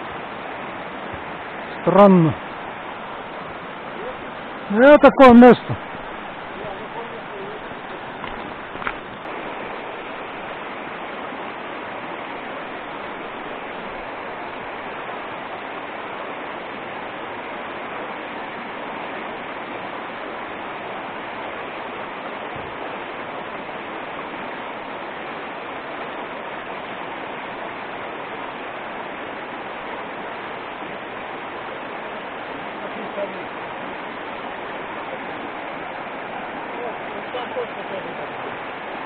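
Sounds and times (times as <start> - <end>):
river water rushing over pebbles: 0.0 - 39.0.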